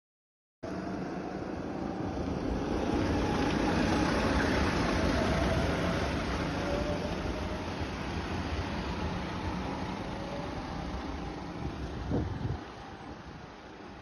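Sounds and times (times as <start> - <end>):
go-kart engines racing past: 0.7 - 12.4.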